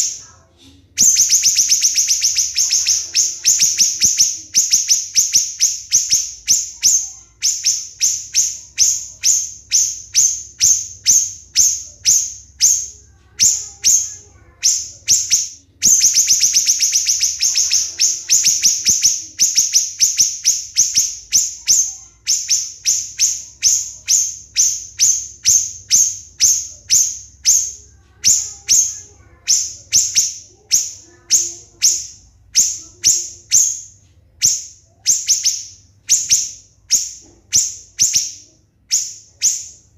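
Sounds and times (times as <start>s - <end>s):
songbird high-pitched notes: 0.0s - 39.9s.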